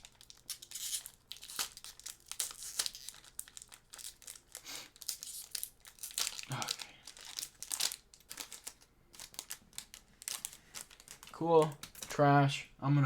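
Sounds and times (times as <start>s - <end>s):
foil wrapper crinkling: 0.0s - 12.2s.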